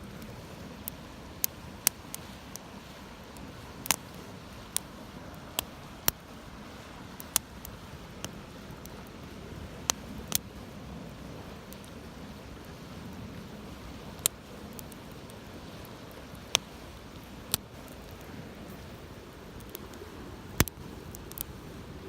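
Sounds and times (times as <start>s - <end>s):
low noise of burning fire: 0.0s - 22.0s
campfire crackling pops: 0.1s - 6.3s, 7.1s - 10.6s, 11.6s - 21.6s.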